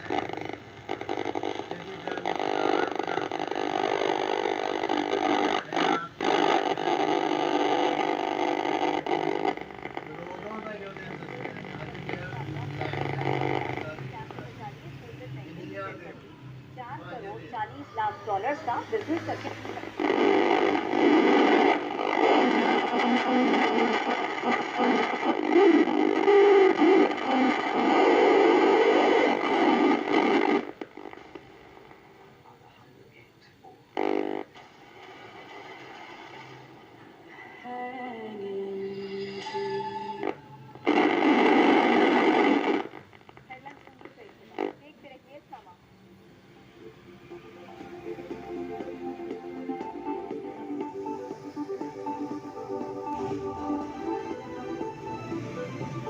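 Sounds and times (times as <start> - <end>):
television speaker buzzing: 0.0 - 56.0.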